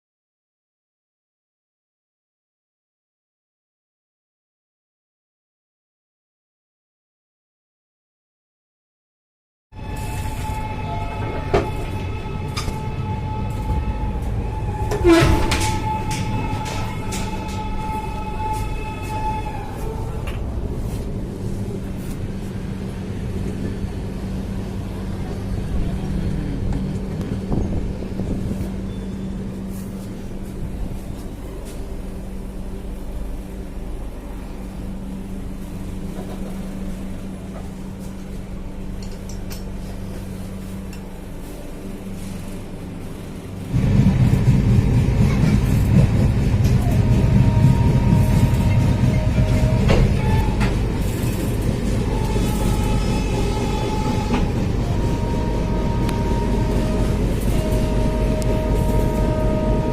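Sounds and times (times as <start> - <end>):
train rumbling: 9.8 - 59.9.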